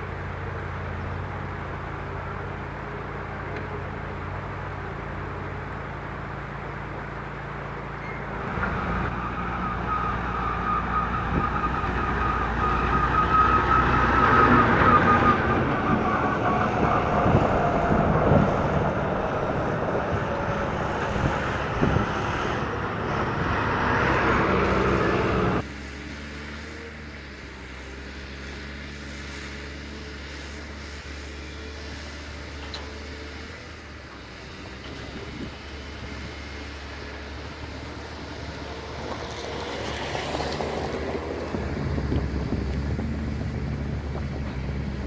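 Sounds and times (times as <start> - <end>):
diesel engine with high whine: 0.0 - 45.0.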